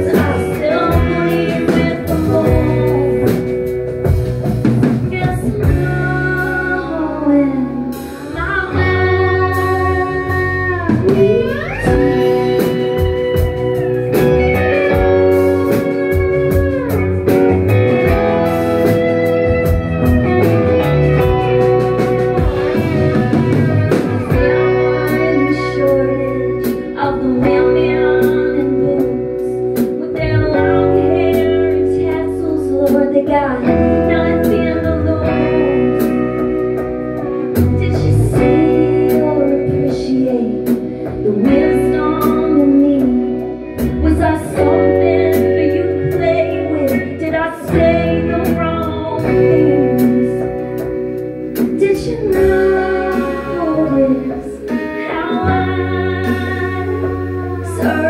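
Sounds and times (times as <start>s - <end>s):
bass notes: 0.0s - 58.0s
electric guitar: 0.0s - 58.0s
keyboard: 0.0s - 58.0s
woman singing: 0.0s - 58.0s.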